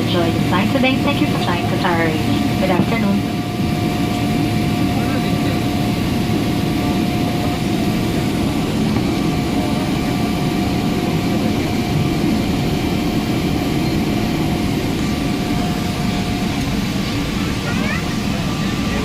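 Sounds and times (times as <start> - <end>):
aircraft cabin rumble: 0.0 - 19.0.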